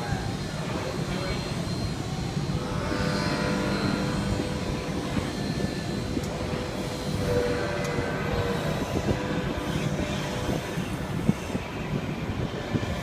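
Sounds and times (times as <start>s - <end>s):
faint steady tones: 0.0s - 13.0s
welding machine noise: 0.0s - 13.0s.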